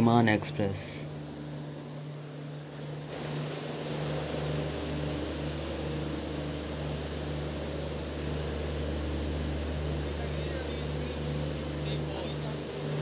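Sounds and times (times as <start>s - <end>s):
train coaches mechanical hum: 0.0s - 13.0s.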